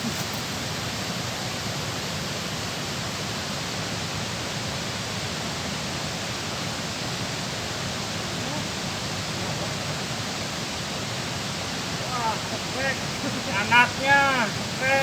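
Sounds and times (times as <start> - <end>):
water rushing over a dam: 0.1 - 15.0.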